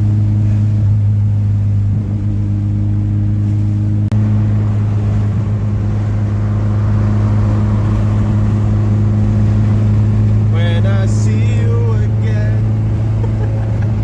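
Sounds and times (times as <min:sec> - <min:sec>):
car engine droning: 0:00.0 - 0:14.0
road noise: 0:00.0 - 0:14.0.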